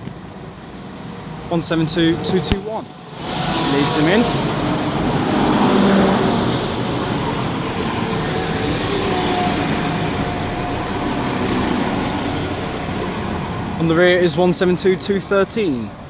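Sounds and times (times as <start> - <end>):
diesel train engines: 0.0 - 16.0
train wheels on rails: 0.0 - 16.0.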